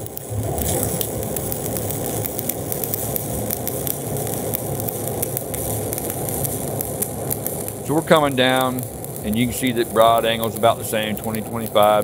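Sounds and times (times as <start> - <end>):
stick welding arc crackling: 0.0 - 12.0.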